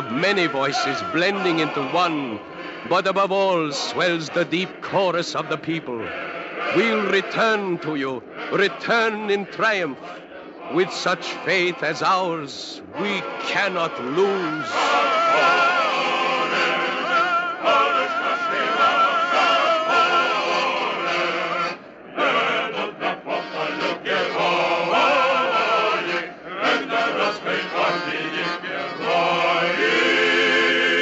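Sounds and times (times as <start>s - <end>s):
chorus singing: 0.0s - 31.0s.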